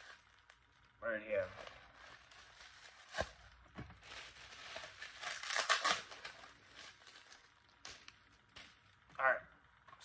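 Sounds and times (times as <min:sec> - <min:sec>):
bubble wrap rustling: 0:00.0 - 0:09.0.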